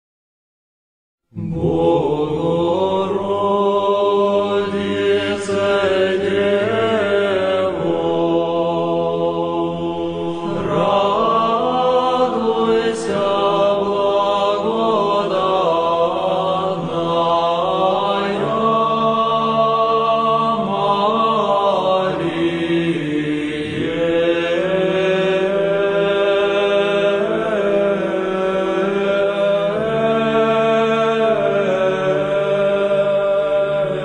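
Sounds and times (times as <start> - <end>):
voices chanting long notes: 1.3 - 34.0.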